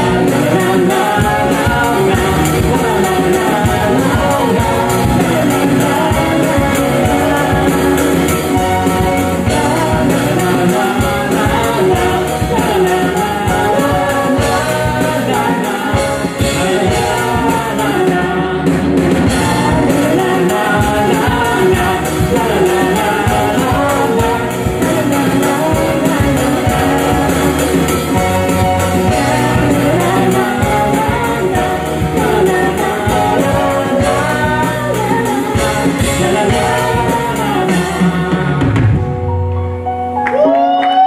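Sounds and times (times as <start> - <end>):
bass guitar: 0.0 - 41.0
drums: 0.0 - 41.0
electric guitar: 0.0 - 41.0
singer on lead vocals: 0.0 - 41.0.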